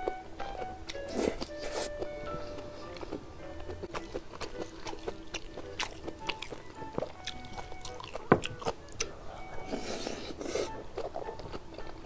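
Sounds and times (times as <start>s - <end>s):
background music: 0.0s - 12.0s
chewing: 0.0s - 12.0s.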